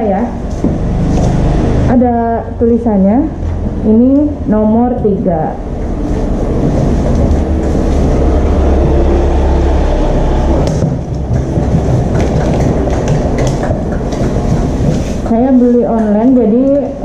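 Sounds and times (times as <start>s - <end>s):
low rumble: 0.3s - 15.5s.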